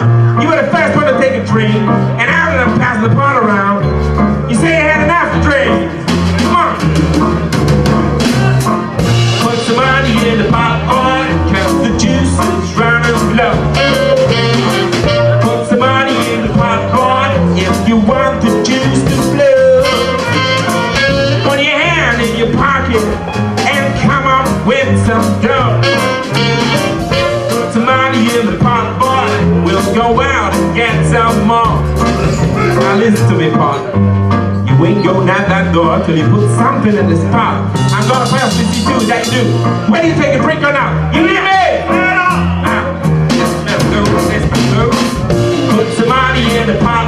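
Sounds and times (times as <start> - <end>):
live swing jazz band: 0.0 - 47.0.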